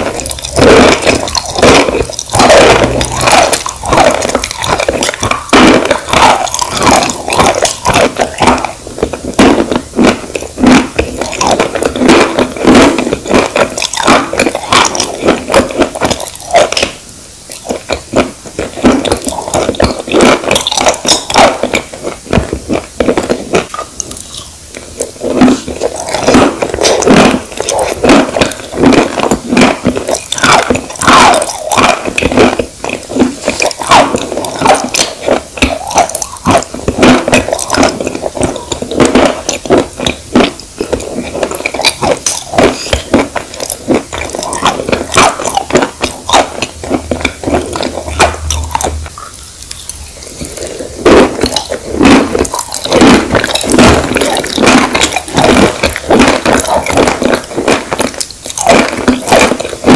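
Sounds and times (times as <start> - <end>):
wet chewing of chalk: 0.0 - 59.9.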